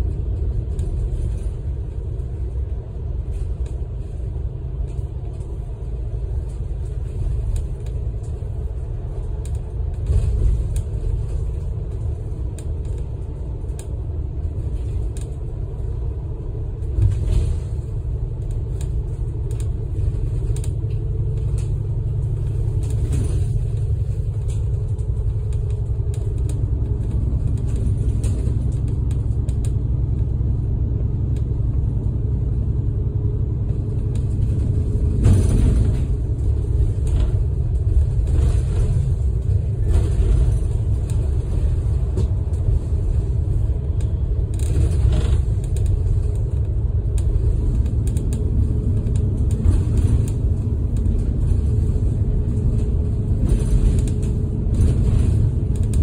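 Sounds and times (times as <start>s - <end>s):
engine and road noise rumble: 0.0s - 56.0s.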